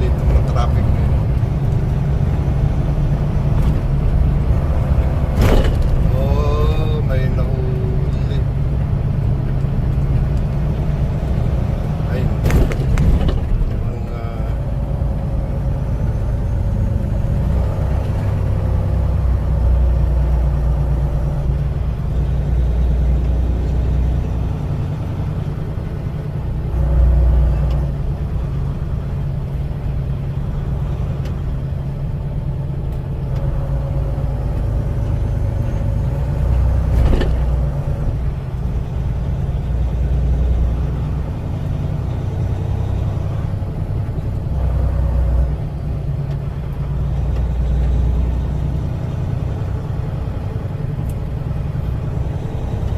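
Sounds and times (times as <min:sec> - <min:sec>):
road noise: 0:00.0 - 0:52.9
truck engine running: 0:00.0 - 0:52.9.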